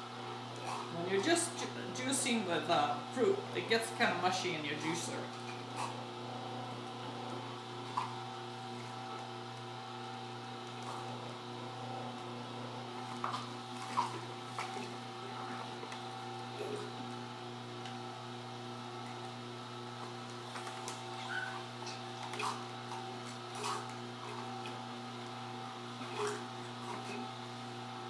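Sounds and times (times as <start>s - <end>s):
juicer motor humming: 0.0s - 28.0s.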